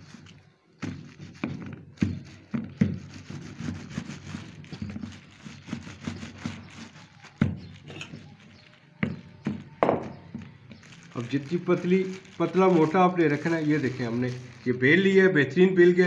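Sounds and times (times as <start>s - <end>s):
rolling pin rubbing over plastic: 0.0s - 14.8s.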